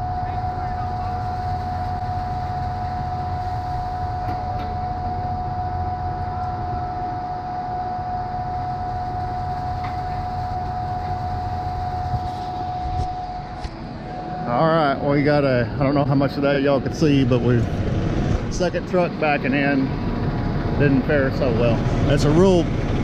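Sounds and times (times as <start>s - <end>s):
constant high whine: 0.0s - 23.0s
diesel engines rumbling: 0.0s - 23.0s.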